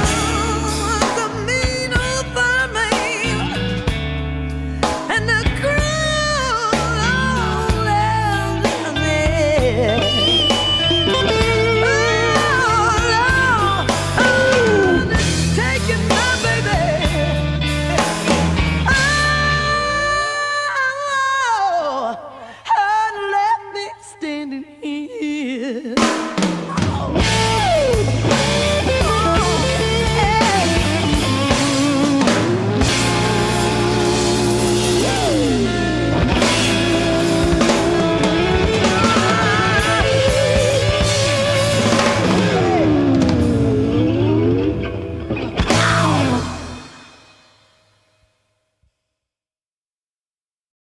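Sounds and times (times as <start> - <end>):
sustained lead guitar notes: 0.0 - 20.7, 26.0 - 47.6
blues-rock band playing: 0.0 - 20.8, 26.0 - 47.5.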